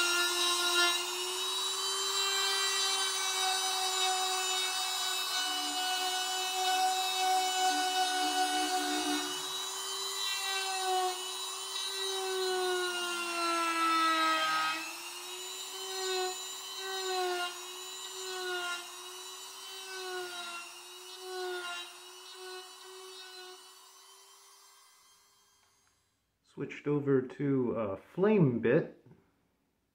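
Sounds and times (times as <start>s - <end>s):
rotary tool carving wood: 0.0s - 26.0s.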